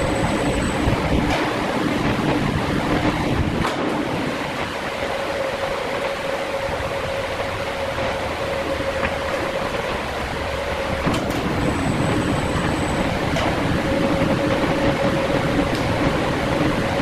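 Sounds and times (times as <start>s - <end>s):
lower machine tone: 0.0s - 3.6s, 5.0s - 17.0s.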